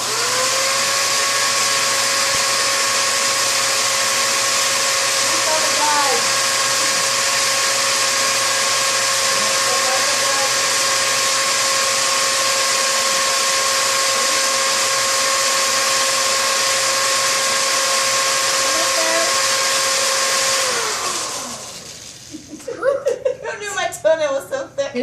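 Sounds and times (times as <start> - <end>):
electric drill whining: 0.0 - 22.4.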